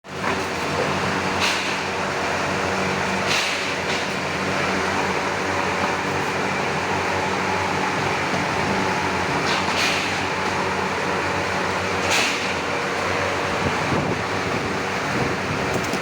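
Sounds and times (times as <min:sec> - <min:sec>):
machinery humming and hissing: 0:00.1 - 0:16.0.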